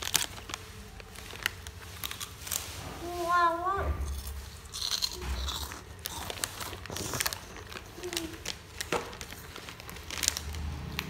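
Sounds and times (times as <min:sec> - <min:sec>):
child crunching crispy snacks: 0:00.0 - 0:11.0.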